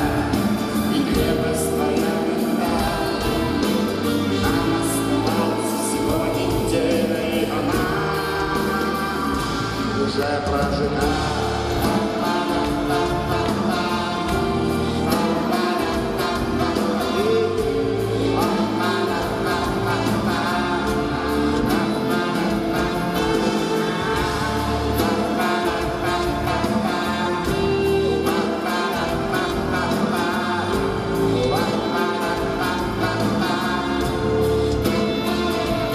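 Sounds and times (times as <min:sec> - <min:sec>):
live band playing: 0:00.0 - 0:35.9
man singing into a microphone: 0:00.0 - 0:35.9.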